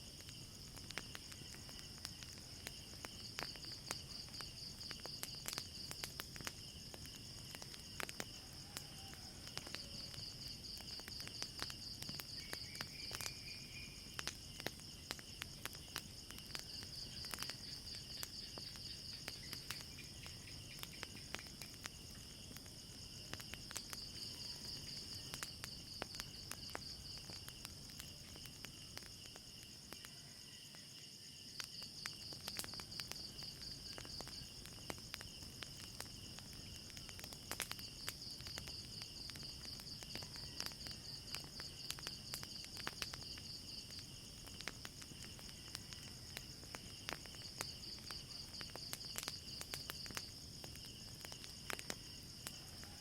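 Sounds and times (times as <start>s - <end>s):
night insects trilling: 0.0s - 53.0s
wood fire crackling: 0.0s - 53.0s.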